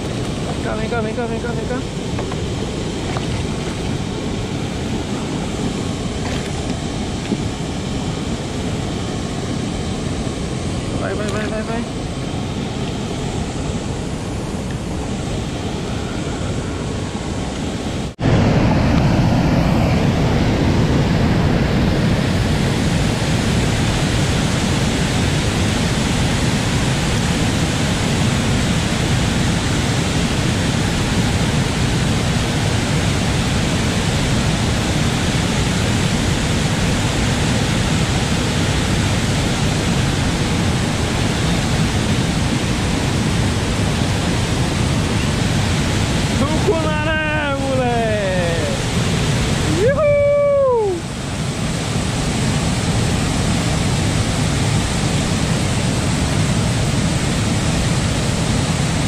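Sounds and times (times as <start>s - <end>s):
water rushing through spillway: 0.0s - 59.0s.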